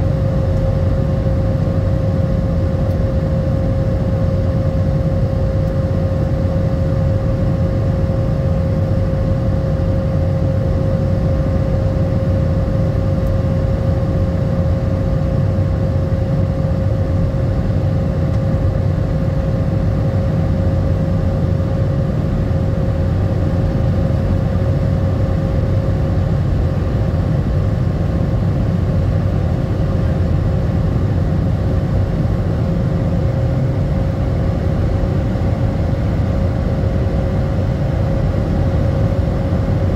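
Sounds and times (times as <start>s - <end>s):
jet cabin engine and airflow rush: 0.0s - 39.9s.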